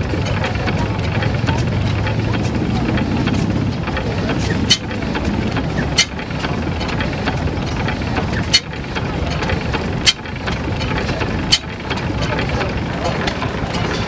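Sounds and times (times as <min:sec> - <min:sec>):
sharp metallic clicks: 0:00.0 - 0:14.0
stationary engine rumbling: 0:00.0 - 0:14.0.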